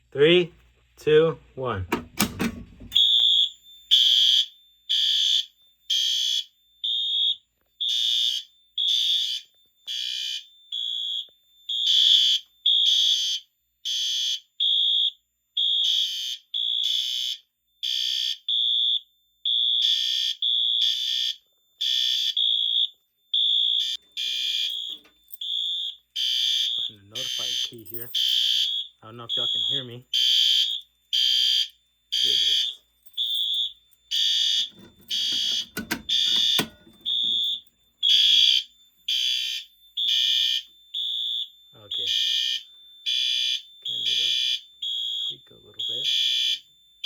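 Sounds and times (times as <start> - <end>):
buzzy fire alarm horn blasts: 1.9 - 47.0
pure tone fire alarm horn blasts: 1.9 - 47.0.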